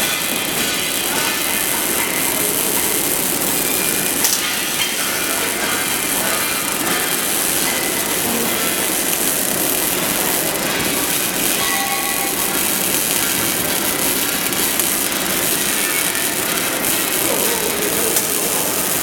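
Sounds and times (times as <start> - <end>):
welding arc crackling: 0.0 - 19.0.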